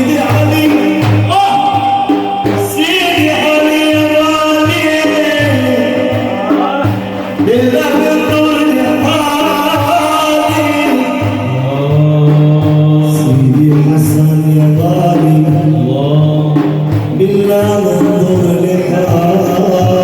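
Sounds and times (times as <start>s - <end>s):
low drum strokes: 0.0s - 20.0s
men chanting a devotional song: 0.0s - 20.0s.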